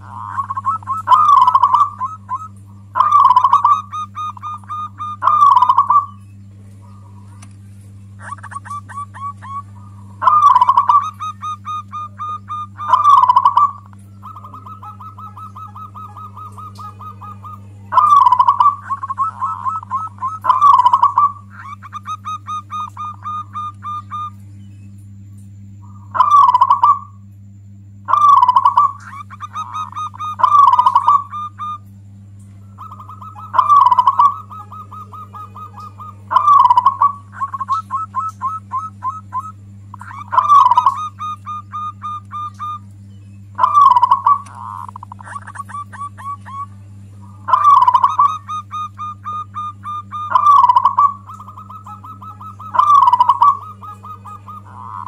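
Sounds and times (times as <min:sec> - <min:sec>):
dove cooing: 0:00.0 - 0:24.4, 0:25.8 - 0:27.3, 0:28.0 - 0:55.0
steady low hum: 0:00.0 - 0:55.0.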